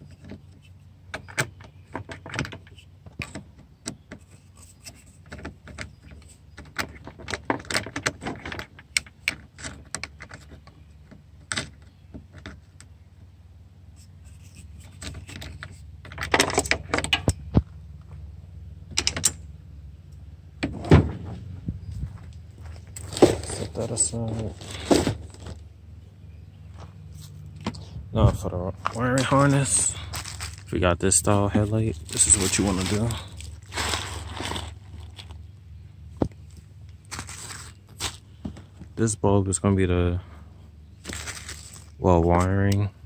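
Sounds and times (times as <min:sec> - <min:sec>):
steady low hum: 0:07.9 - 0:43.0.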